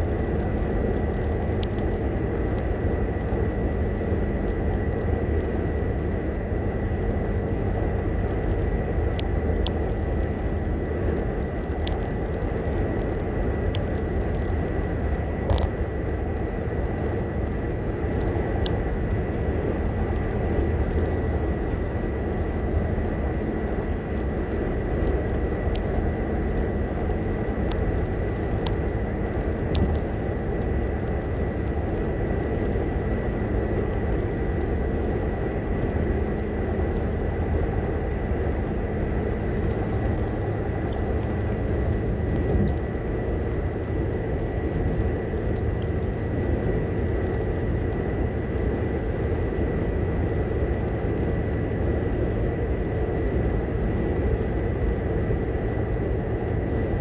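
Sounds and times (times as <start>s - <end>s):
road and engine noise in car: 0.0s - 57.0s.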